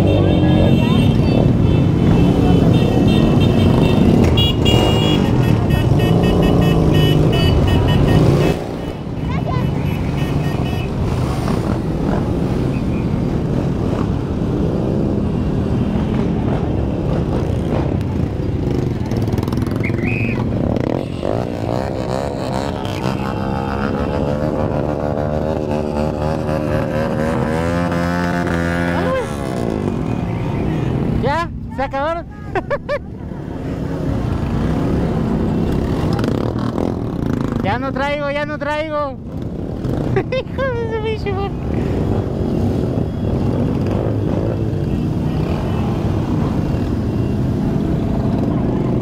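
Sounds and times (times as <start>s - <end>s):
motorcycle engines running: 0.0s - 31.7s, 32.5s - 49.0s.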